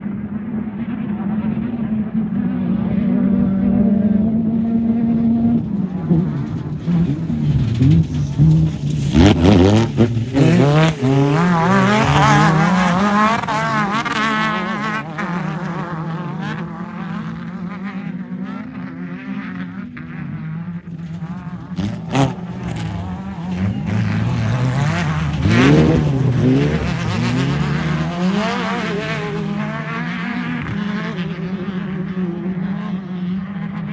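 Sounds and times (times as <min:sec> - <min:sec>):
low engine drone: 0:00.0 - 0:33.9
race car engines revving: 0:00.0 - 0:33.9.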